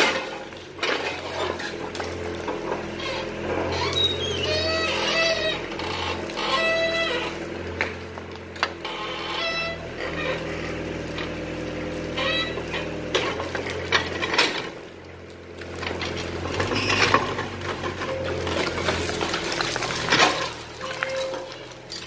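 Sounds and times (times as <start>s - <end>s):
demolition debris knocking and clattering: 0.0s - 8.9s, 12.2s - 22.0s
excavator bucket working: 0.0s - 22.0s
excavator diesel engine running: 0.0s - 22.0s.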